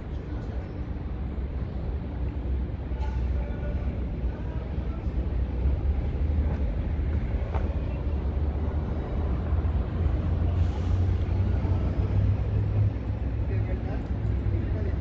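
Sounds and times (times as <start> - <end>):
low street rumble: 0.0 - 15.0
vehicle traffic passing: 0.0 - 15.0.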